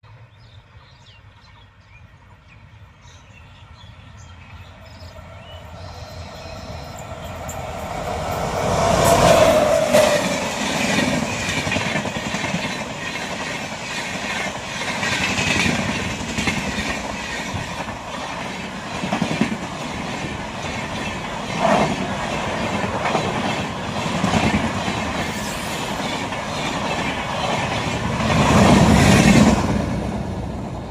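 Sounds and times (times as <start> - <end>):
train passing: 0.1 - 30.9.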